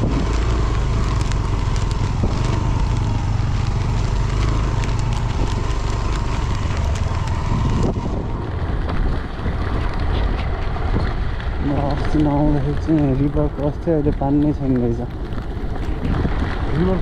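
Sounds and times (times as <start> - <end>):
crackling ticks: 0.0 - 17.0
motorcycle engine rumble: 0.0 - 17.0
wind rushing over microphone: 0.0 - 17.0.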